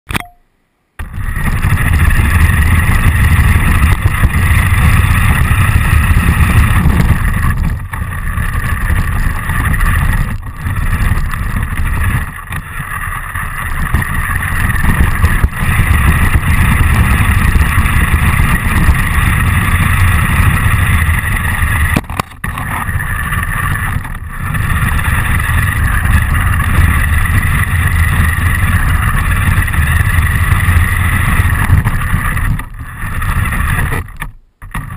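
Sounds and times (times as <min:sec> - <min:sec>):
rumble of vibration and wind: 0:00.1 - 0:34.9
rc car motor whine: 0:01.0 - 0:34.9.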